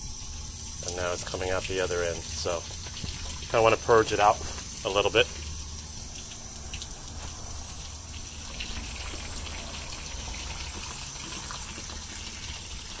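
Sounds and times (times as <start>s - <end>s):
water gushing from a hose: 0.0s - 13.0s.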